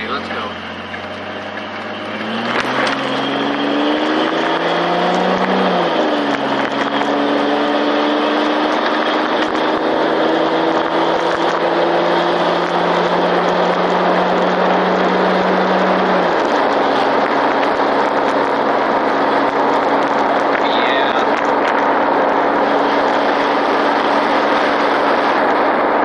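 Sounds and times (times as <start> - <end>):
car engine accelerating hard: 0.0 - 26.0
wind and road noise: 0.0 - 26.0.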